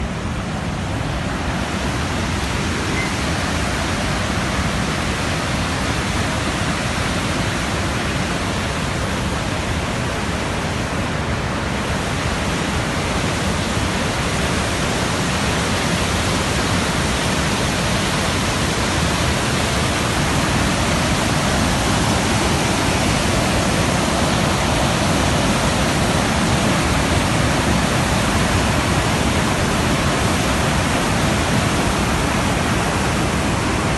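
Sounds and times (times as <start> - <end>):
water rushing: 0.0 - 33.9.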